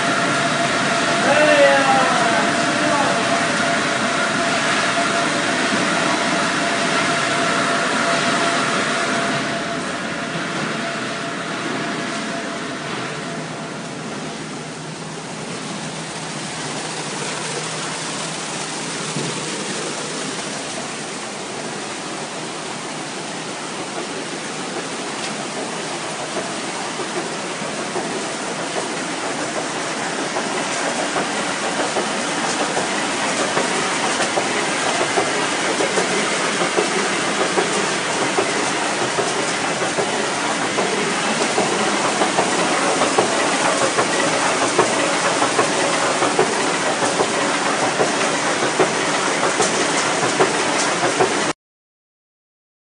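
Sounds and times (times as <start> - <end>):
machinery and water rushing: 0.0 - 51.6.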